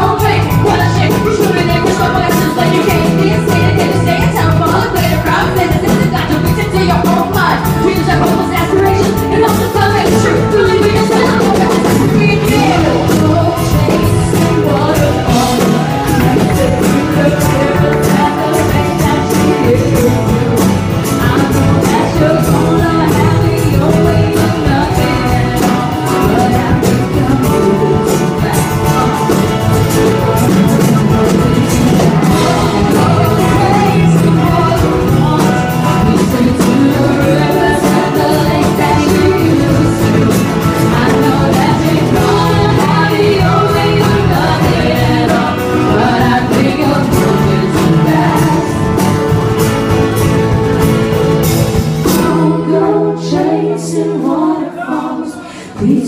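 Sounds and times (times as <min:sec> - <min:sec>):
woman singing into a microphone: 0:00.0 - 0:29.8, 0:31.4 - 0:49.3, 0:52.0 - 0:56.0
live band music: 0:00.0 - 0:56.0.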